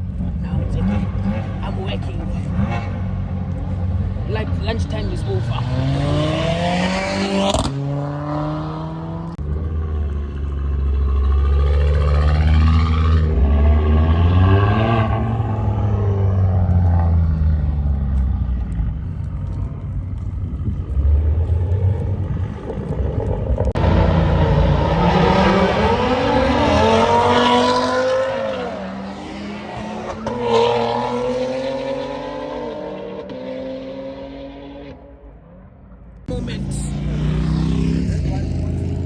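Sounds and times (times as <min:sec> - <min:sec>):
car engines rumbling and revving: 0:00.0 - 0:39.0.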